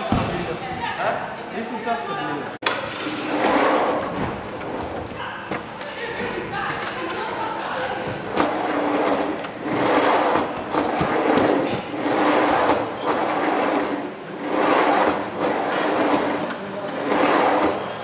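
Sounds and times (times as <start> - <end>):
trolley wheels rumbling on wood: 3.0 - 18.0.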